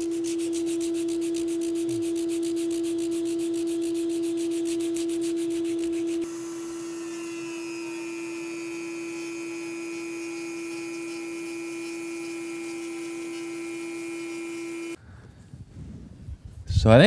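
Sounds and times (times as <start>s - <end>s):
power sander buzzing: 0.0s - 15.0s.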